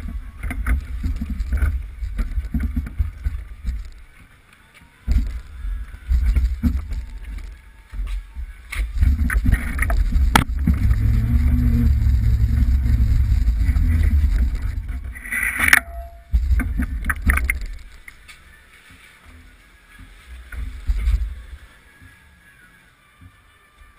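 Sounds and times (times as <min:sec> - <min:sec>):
kart rolling on concrete: 0:00.0 - 0:22.6.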